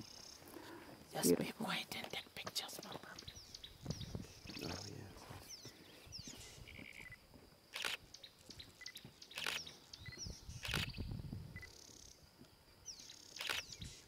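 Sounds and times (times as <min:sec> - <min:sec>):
birds chirping: 0:00.0 - 0:07.2, 0:07.8 - 0:14.0.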